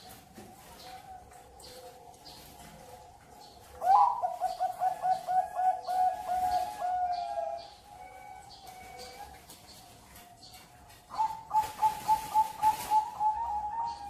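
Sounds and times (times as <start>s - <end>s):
dove cooing: 0.0s - 9.6s, 10.5s - 14.0s.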